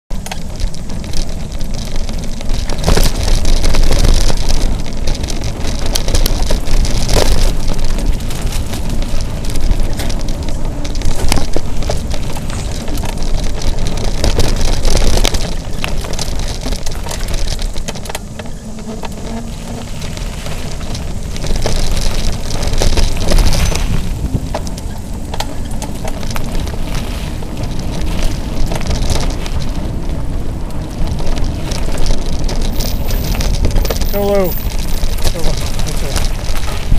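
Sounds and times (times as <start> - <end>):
tyres crackling on dirt trail: 0.0 - 36.9
bike clattering over bumps: 0.1 - 36.9
wind rumbling on microphone: 0.1 - 36.9.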